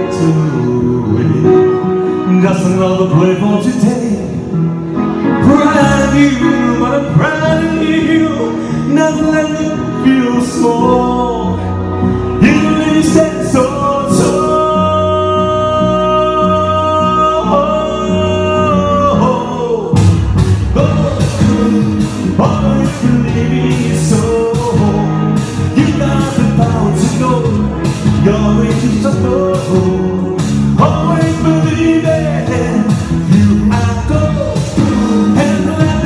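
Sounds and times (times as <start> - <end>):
man singing into microphone: 0.0 - 4.6, 5.2 - 36.0
instrumental backing: 0.0 - 36.0.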